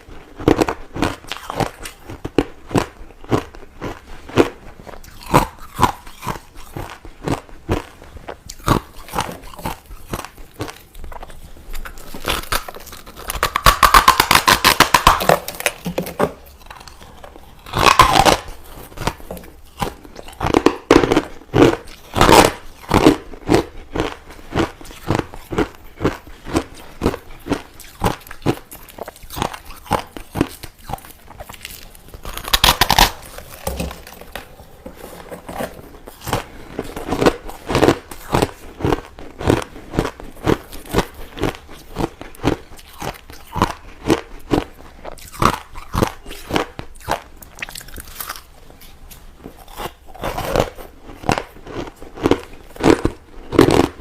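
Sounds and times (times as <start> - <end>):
person chewing crushed ice: 0.0 - 54.0.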